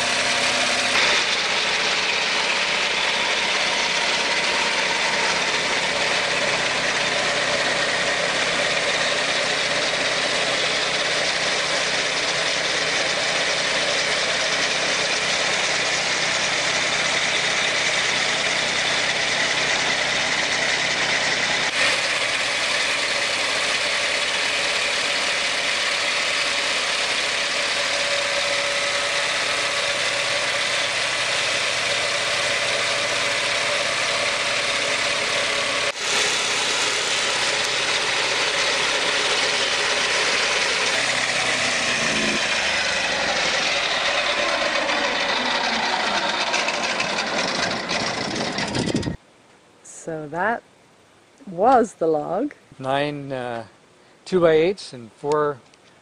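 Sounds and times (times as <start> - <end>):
circular blade sawing wood: 0.0 - 49.2
sawmill engine running: 0.0 - 49.2.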